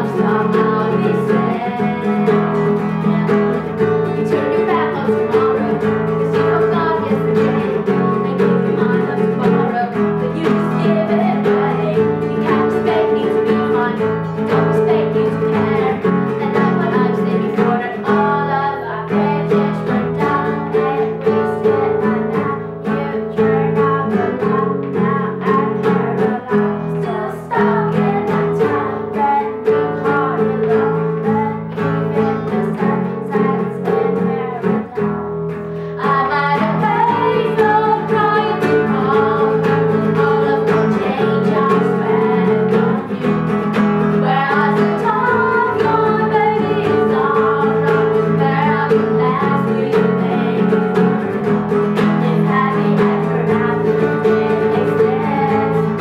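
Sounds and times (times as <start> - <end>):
acoustic guitar chords: 0.0 - 56.0
girls singing a pop song: 0.0 - 56.0.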